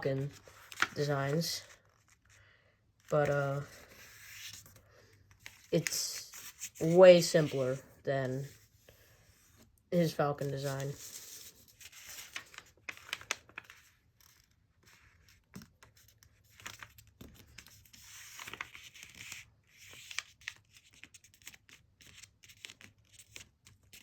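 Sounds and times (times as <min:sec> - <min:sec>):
paper rustling being folded: 0:00.0 - 0:02.4, 0:03.0 - 0:24.0.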